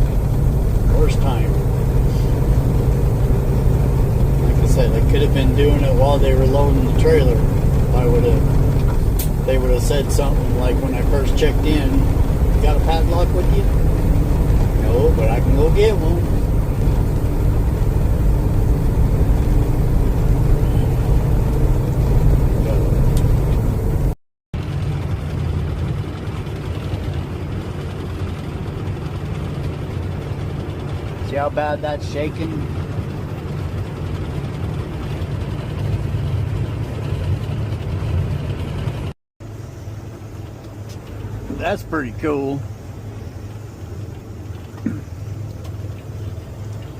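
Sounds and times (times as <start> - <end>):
road noise inside cab: 0.0 - 46.9
truck diesel engine rumble: 0.0 - 46.9.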